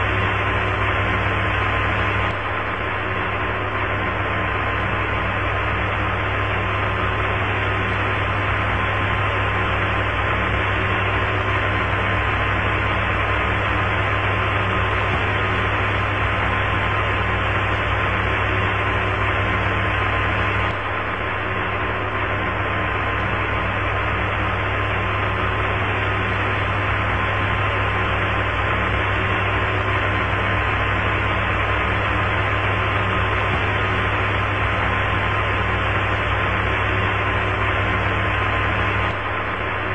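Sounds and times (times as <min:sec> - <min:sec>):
radio channel hiss and hum: 0:00.0 - 0:39.9.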